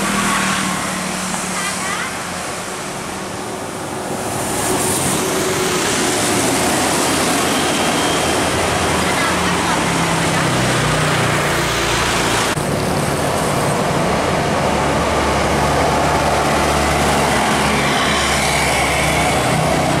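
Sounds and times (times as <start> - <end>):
bus and car engines: 0.0 - 20.0
tyre and road noise: 0.0 - 20.0.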